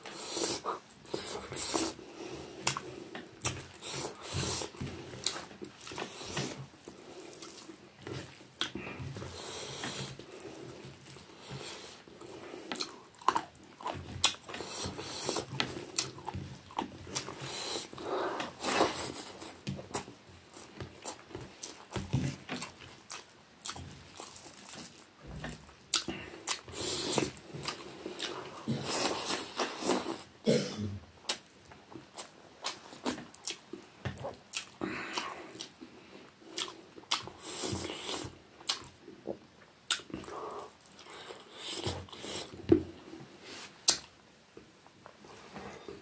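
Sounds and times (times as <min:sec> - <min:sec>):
person chewing food: 0:00.0 - 0:30.3, 0:31.2 - 0:44.1.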